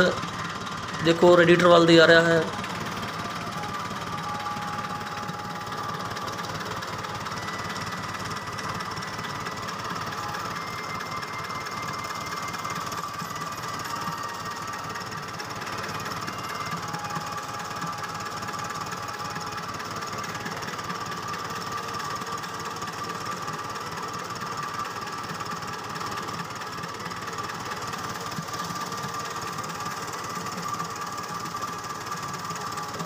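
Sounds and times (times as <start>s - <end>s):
diesel tractor engine idling: 0.0s - 33.0s.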